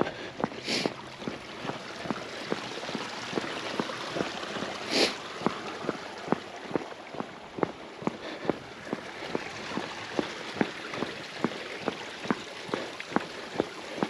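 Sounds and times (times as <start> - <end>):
outdoor background hiss: 0.0 - 14.0
walking footsteps: 0.0 - 14.0.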